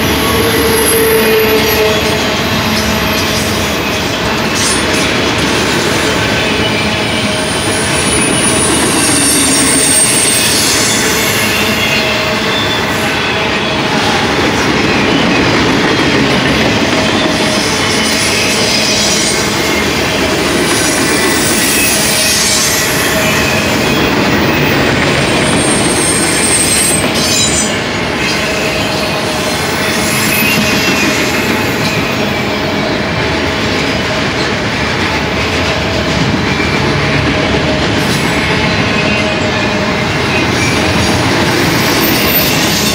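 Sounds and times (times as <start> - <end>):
high wheel squeals: 0.0 - 4.9, 6.0 - 15.5, 17.0 - 32.9, 38.4 - 42.9
steel wheels rumbling on rail: 0.0 - 42.9.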